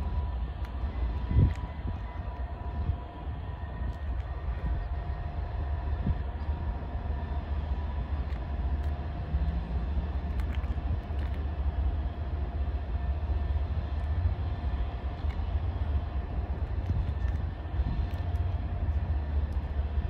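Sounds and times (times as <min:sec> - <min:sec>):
diesel locomotives rumbling: 0:00.0 - 0:20.0
faint steady whine: 0:00.0 - 0:20.0.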